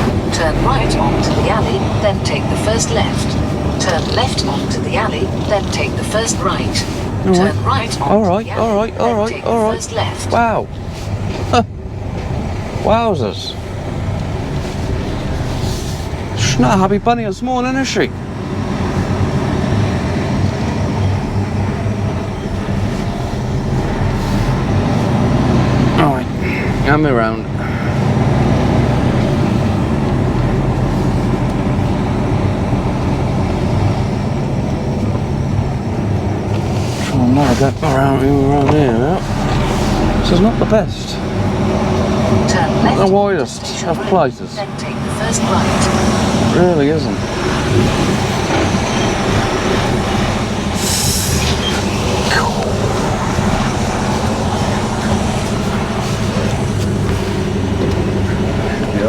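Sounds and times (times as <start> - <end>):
lorry diesel engine droning: 0.0 - 59.0.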